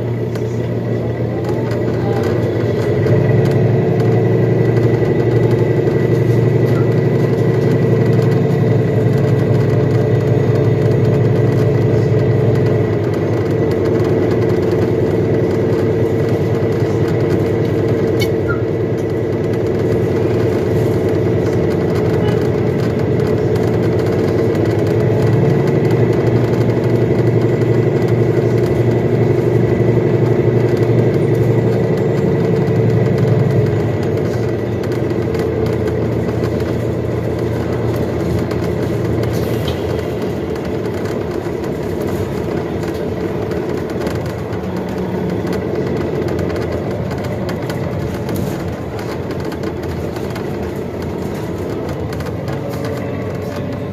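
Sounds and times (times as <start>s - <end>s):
bus engine drone: 0.0s - 53.9s
hybrid drive hum: 0.0s - 53.9s.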